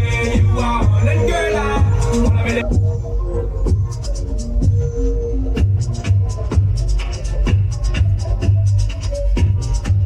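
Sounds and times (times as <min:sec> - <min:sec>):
loud electronic dance music: 0:00.0 - 0:10.0.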